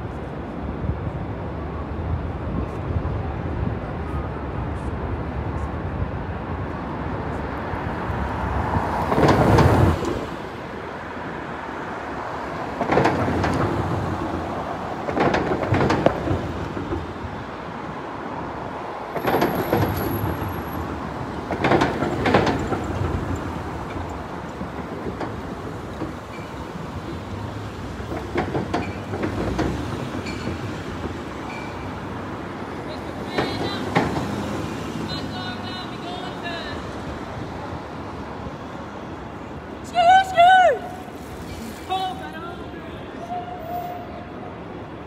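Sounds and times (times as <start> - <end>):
street traffic hum: 0.0 - 45.0
vehicles passing close by: 0.0 - 45.0.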